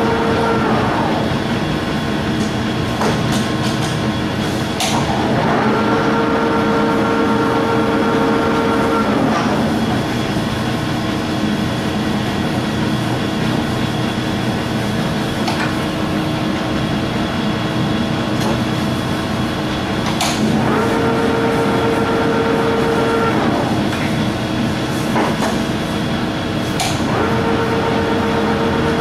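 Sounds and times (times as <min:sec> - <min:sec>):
lathe gear drive rumble: 0:00.0 - 0:29.0.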